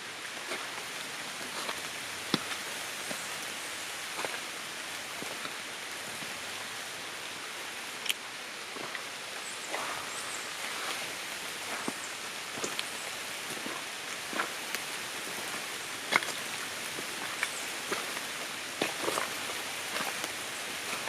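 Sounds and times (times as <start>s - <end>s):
light rain on leaves: 0.0s - 21.0s.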